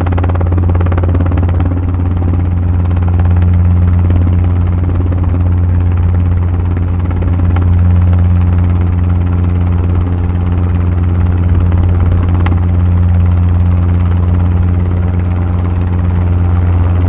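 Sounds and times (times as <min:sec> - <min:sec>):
helicopter engine and rotor hum: 0:00.0 - 0:17.0.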